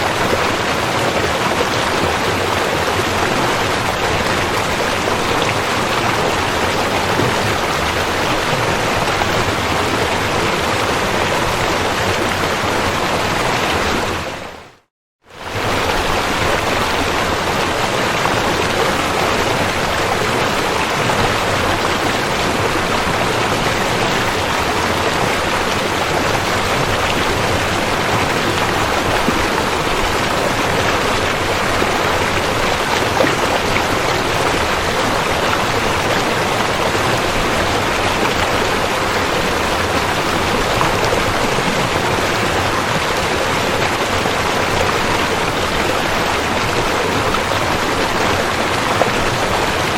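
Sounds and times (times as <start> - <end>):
river water flowing: 0.0 - 49.9.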